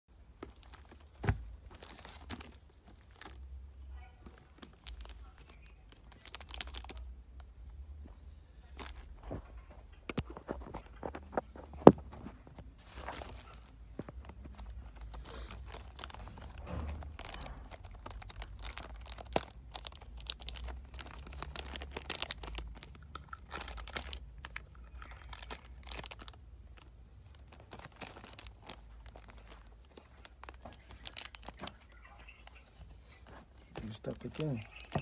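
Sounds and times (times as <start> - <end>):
plastic packaging crinkling and tearing: 0.4 - 3.6, 4.2 - 7.1, 12.8 - 35.0.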